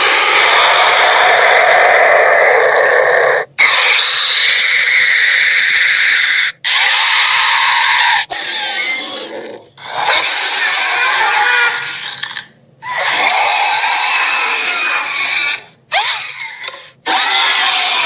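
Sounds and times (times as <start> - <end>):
harsh robot dinosaur roars: 0.0 - 12.0, 12.8 - 18.0.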